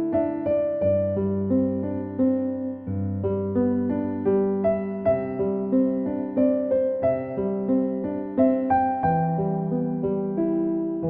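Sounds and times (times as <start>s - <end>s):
solo piano music: 0.0s - 11.0s.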